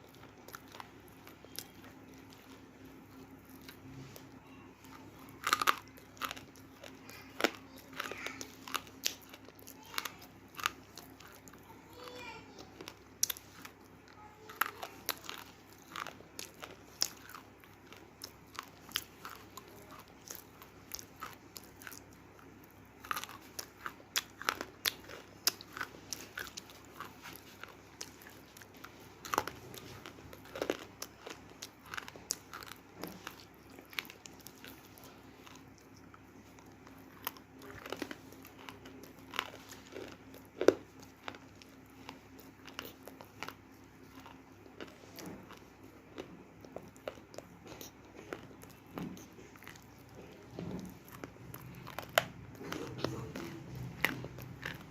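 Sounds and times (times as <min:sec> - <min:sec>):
clay being bitten and chewed: 0:00.0 - 0:54.9.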